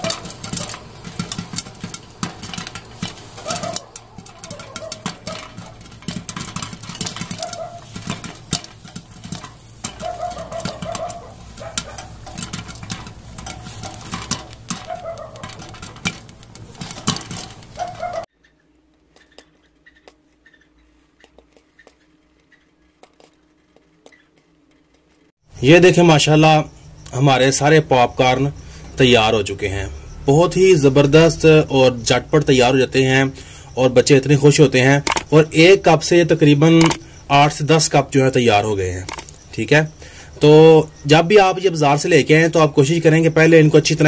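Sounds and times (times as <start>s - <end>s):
popcorn popping against lid: 0.0s - 18.3s, 25.9s - 44.0s.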